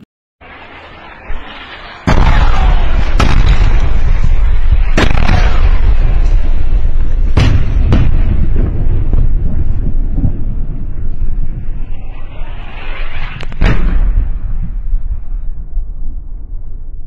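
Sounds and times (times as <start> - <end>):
heavy rumble: 0.4 - 17.0
bombs exploding: 1.2 - 16.7.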